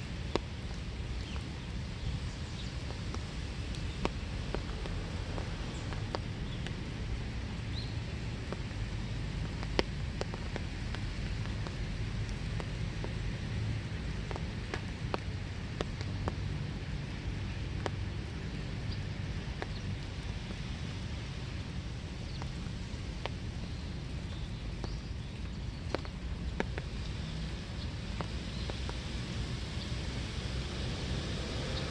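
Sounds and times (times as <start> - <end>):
sharp drips tapping: 0.0 - 31.8
rain falling: 0.0 - 31.9.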